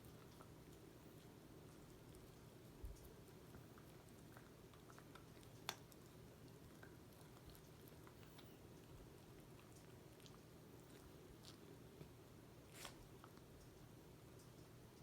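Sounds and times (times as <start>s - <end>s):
dog chewing a treat: 0.0s - 14.7s
low room hum: 0.0s - 15.0s.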